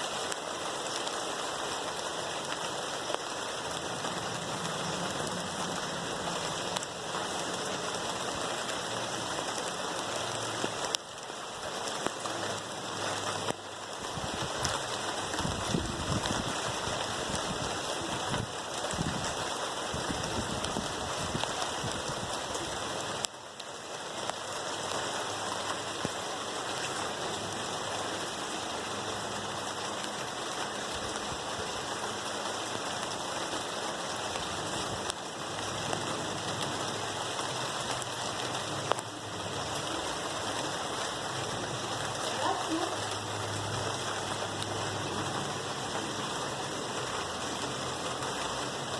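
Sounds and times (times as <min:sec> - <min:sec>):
rain falling on leaves: 0:00.0 - 0:48.9.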